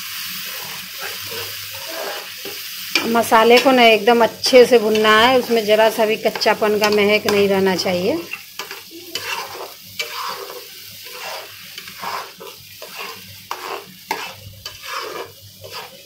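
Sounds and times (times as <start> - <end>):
spice paste sizzling in oil: 0.0 - 16.0
wooden spatula scraping: 0.4 - 3.7, 6.3 - 16.0.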